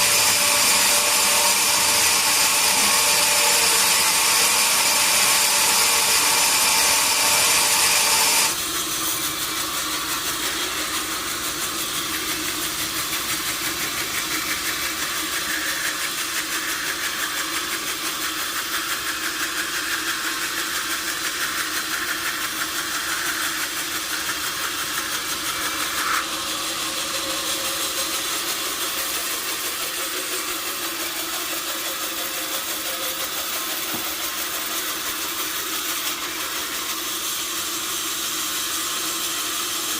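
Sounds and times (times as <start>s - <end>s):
machinery running steadily: 0.0s - 39.9s
saw cutting through log: 0.0s - 39.9s.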